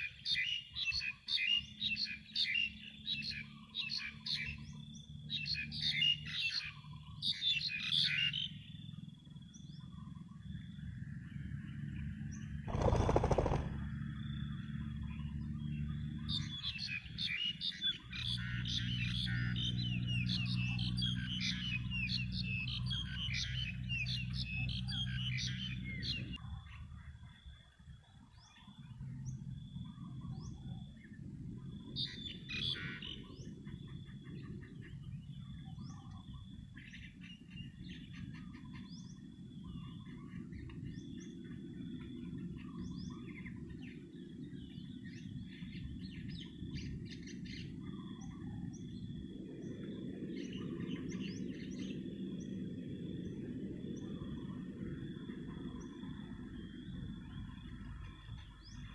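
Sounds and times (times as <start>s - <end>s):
small birds chirping: 0.0s - 11.0s, 11.6s - 58.9s.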